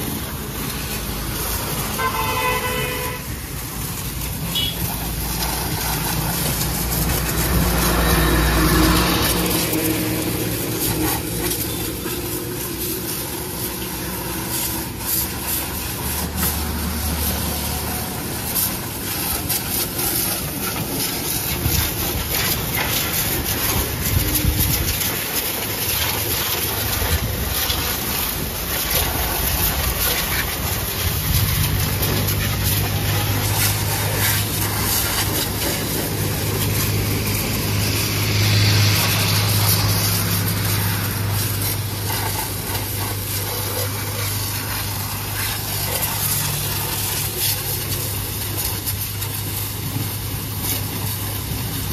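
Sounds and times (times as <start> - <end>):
pressure washer jet hissing: 0.0 - 51.9.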